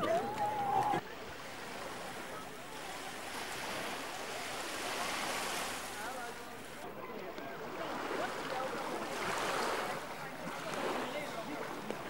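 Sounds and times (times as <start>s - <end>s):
small waves lapping shore: 0.0s - 12.0s.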